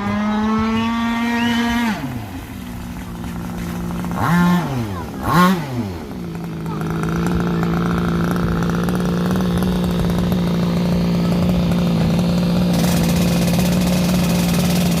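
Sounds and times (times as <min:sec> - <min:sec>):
two-stroke boat engine running: 0:00.0 - 0:15.0.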